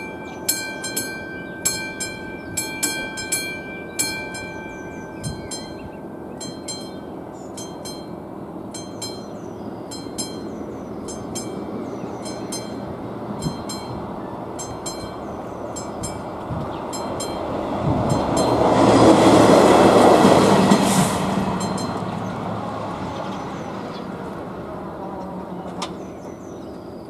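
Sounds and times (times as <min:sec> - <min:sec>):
level crossing warning bell: 0:00.0 - 0:22.7.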